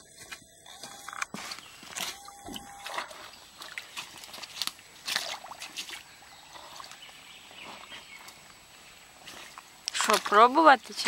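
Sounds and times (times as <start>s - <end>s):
hands squelching in mud: 1.4s - 8.5s, 9.2s - 11.0s.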